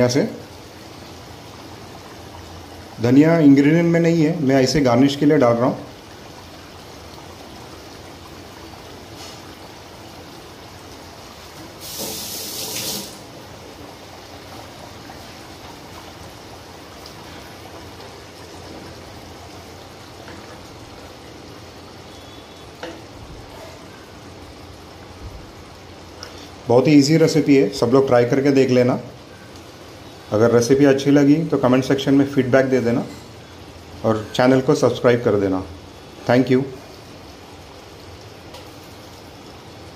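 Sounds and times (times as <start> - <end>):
curry bubbling in a pan: 0.0 - 39.9.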